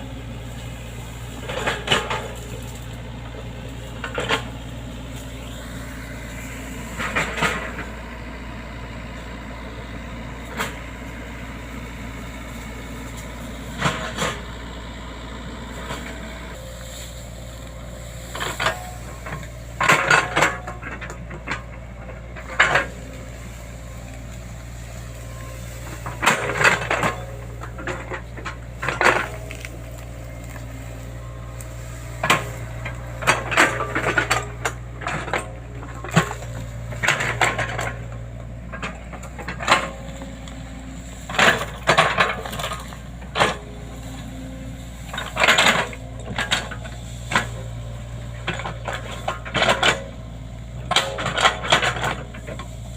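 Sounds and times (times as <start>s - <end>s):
excavator engine humming: 0.0s - 52.9s
metallic clanks and rattles: 0.3s - 5.2s, 6.3s - 8.0s, 9.9s - 14.6s, 15.8s - 52.9s.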